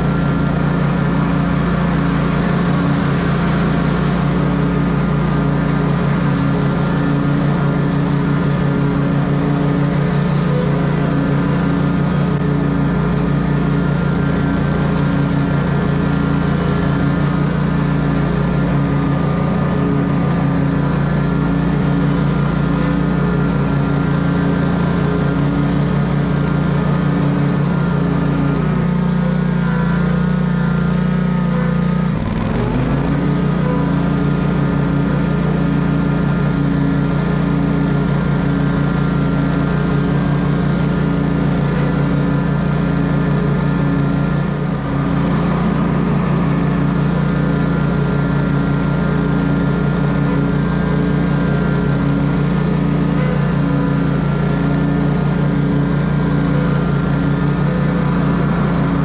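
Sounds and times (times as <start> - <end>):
blades cutting grass: 0.0 - 59.0
lawn mower engine running: 0.0 - 59.0.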